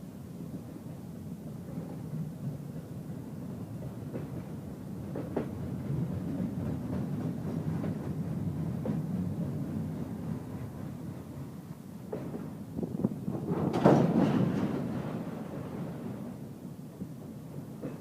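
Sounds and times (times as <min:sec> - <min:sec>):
train rumbling by: 0:00.0 - 0:18.0
train wheels clicking on track: 0:01.6 - 0:18.0.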